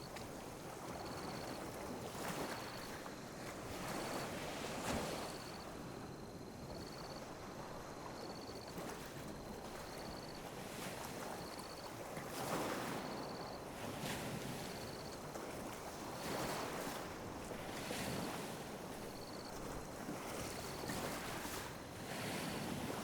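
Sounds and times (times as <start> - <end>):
small waves lapping on a beach: 0.0 - 23.0.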